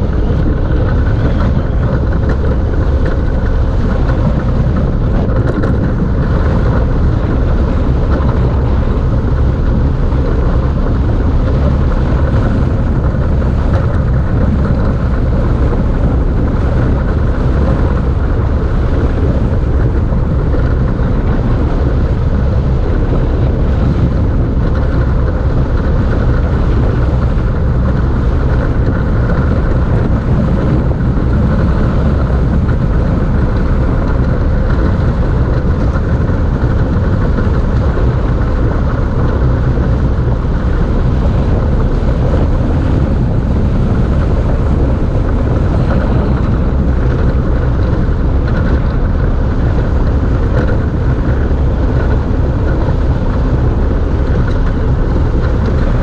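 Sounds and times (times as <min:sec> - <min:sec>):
tyres rumbling on asphalt: 0:00.0 - 0:56.0
wind rushing on microphone: 0:00.0 - 0:56.0.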